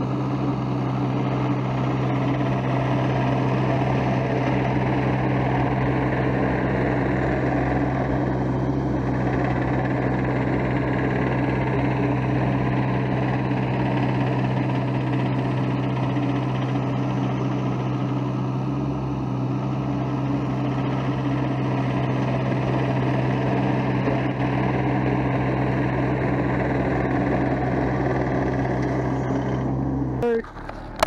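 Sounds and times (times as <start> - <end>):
excavator engine running: 0.0 - 31.0
machine working on gravel: 0.0 - 31.0.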